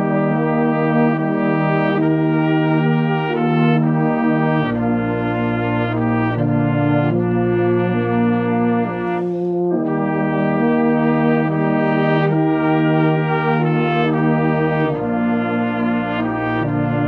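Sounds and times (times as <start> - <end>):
brass band playing held chords: 0.0 - 17.0.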